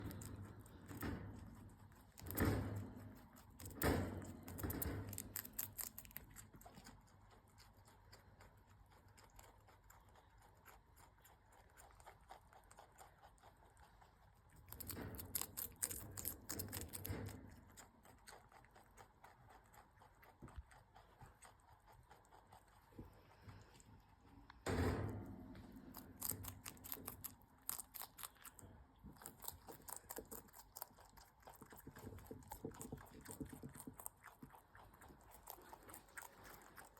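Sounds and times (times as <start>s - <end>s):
rabbit chewing crunching: 0.0s - 36.9s.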